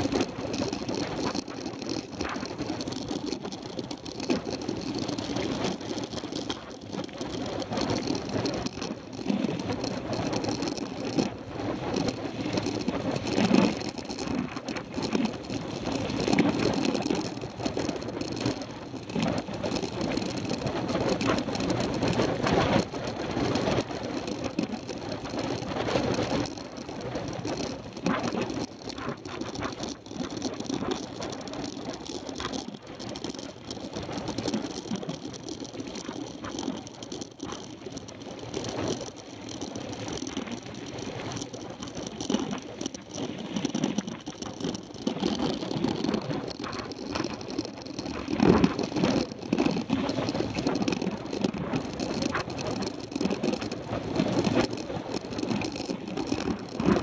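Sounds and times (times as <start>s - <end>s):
bike rattling and knocking: 0.0s - 57.0s.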